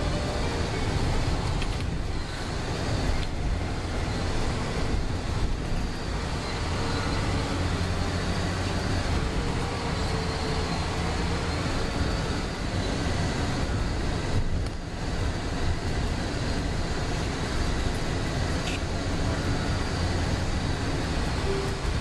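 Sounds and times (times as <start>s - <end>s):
vehicle road noise from inside: 0.0s - 22.0s.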